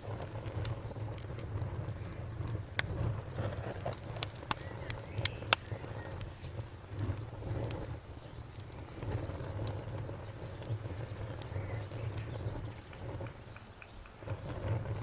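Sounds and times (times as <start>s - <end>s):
wood fire crackling and popping: 0.0s - 15.0s
cricket chirping: 0.1s - 15.0s.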